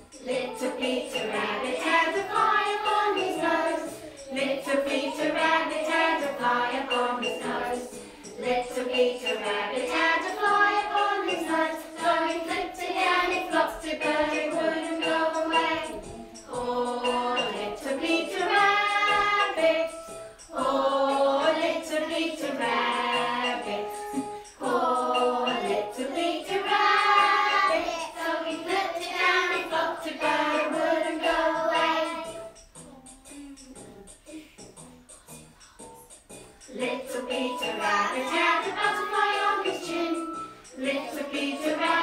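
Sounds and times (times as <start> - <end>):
children singing in chorus: 0.0 - 32.5, 36.7 - 42.0.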